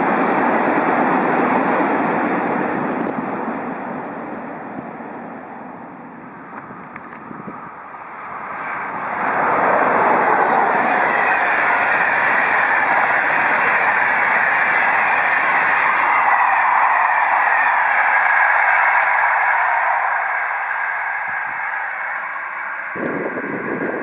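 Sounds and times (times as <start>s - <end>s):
train wheels rushing on rails: 0.0s - 24.0s.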